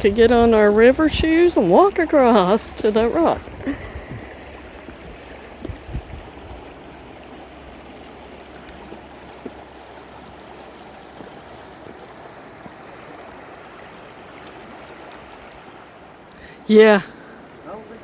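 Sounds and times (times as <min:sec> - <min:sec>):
river flowing over rocks: 0:00.0 - 0:18.0.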